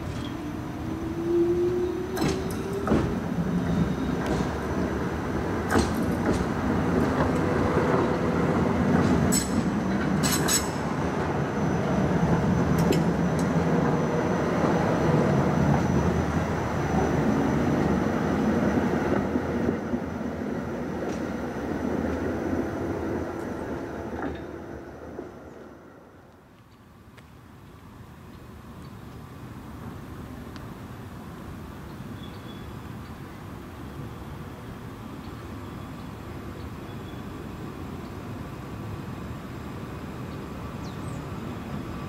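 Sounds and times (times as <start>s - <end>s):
tram passing: 0.0s - 27.0s, 32.8s - 42.0s.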